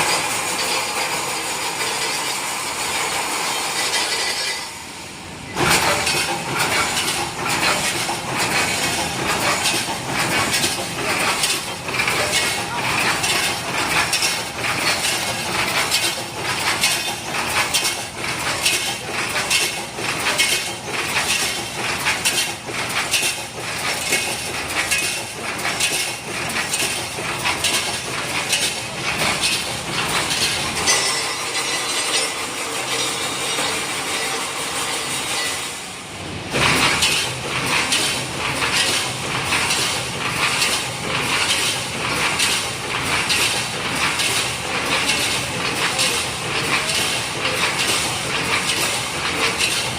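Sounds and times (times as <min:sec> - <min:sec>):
welding machine repeating stroke: 0:05.6 - 0:35.8, 0:36.4 - 0:49.9.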